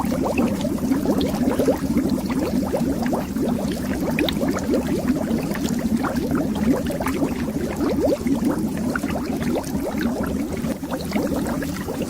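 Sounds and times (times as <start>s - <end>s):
underwater bubbles blipping: 0.0s - 12.0s.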